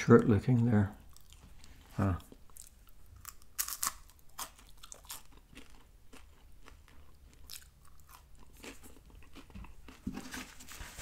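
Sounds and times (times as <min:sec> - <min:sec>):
chewing crunchy wafers: 0:00.9 - 0:10.6.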